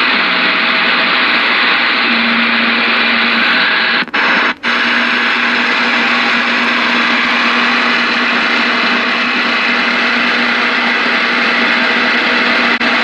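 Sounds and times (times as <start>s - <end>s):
radio receiver static: 0.0s - 13.0s.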